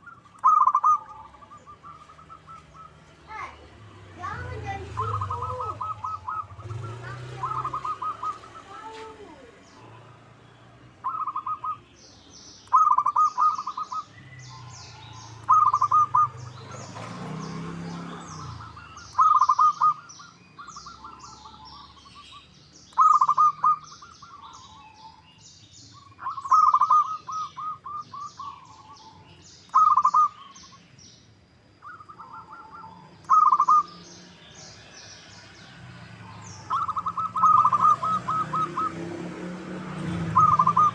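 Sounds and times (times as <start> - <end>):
dove cooing: 0.0 - 3.5, 4.1 - 9.6, 11.0 - 11.8, 12.6 - 22.2, 22.9 - 25.3, 26.1 - 30.5, 31.8 - 34.0, 36.2 - 40.9
small birds chirping: 0.0 - 40.9.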